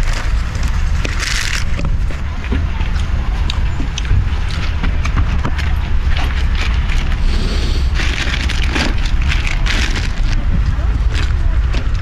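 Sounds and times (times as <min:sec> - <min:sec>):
crackling handling noise: 0:00.0 - 0:12.0
wind buffeting microphone: 0:00.0 - 0:12.0.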